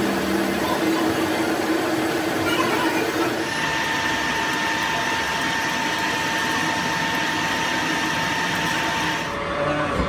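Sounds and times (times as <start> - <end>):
metal lathe cutting steel: 0.0 - 9.4
high-pitched machine whine: 0.0 - 10.0.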